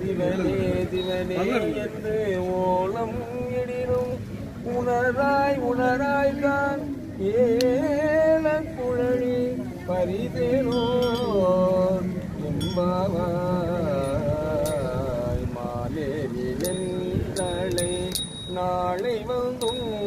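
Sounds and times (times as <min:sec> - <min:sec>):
men chanting a hymn: 0:00.0 - 0:20.0.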